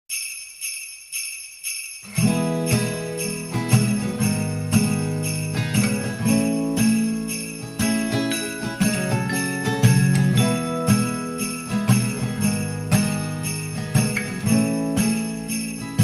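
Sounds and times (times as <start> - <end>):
sleigh bells jingling: 0.1 - 16.0.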